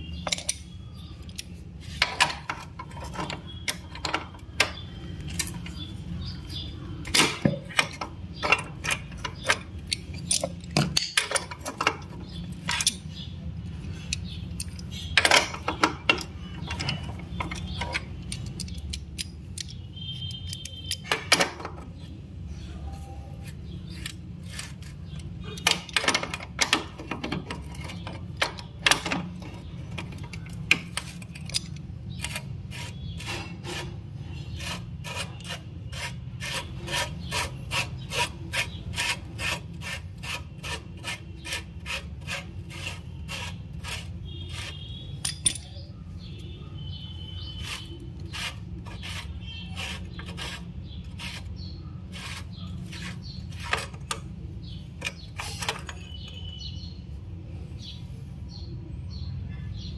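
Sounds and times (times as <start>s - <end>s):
wrench clicking and scraping on metal: 0.0s - 22.1s, 23.4s - 45.9s, 47.0s - 56.6s.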